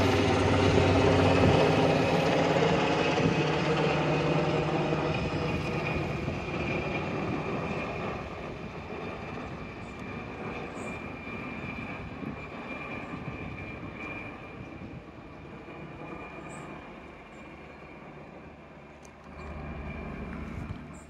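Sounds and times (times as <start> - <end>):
helicopter flying by: 0.0 - 21.0.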